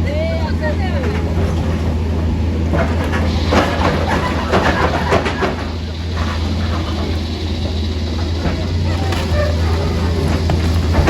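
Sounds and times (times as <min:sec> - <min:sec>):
heavy engine running: 0:00.0 - 0:11.0
clattering and knocking: 0:00.7 - 0:11.0.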